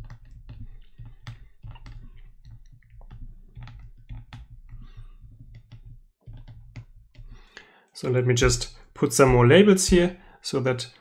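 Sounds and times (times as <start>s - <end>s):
stylus tapping on drawing tablet: 0.0s - 7.6s, 8.4s - 10.2s.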